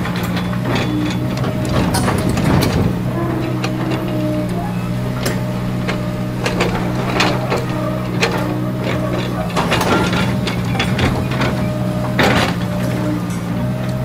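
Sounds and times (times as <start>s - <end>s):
excavator bucket clanks and knocks: 0.0s - 14.0s
excavator engine running: 0.0s - 14.0s.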